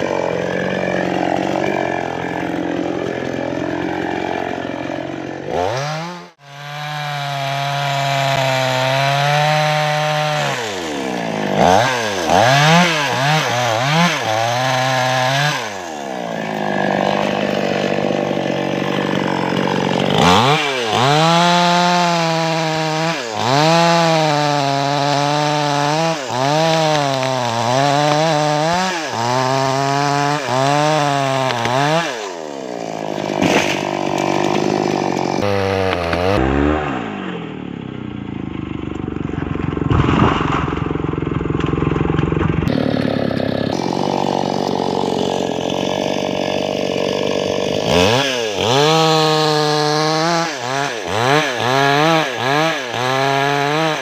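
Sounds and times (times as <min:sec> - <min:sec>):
chainsaw revving while cutting wood: 0:00.0 - 0:39.0, 0:39.8 - 0:54.0.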